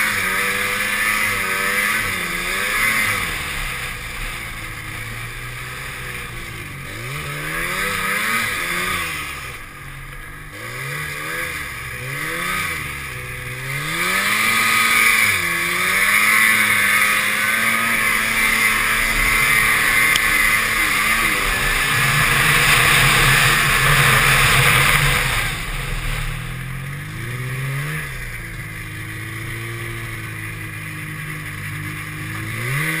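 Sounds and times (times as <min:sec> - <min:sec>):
snowmobile engine revving: 0:00.0 - 0:33.0.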